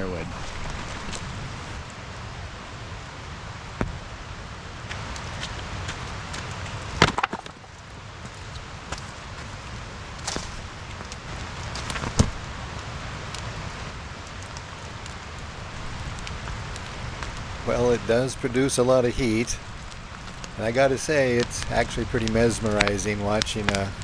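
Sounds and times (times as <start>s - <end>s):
firewood cracking: 0.0s - 24.0s
steady rain falling: 0.0s - 24.0s.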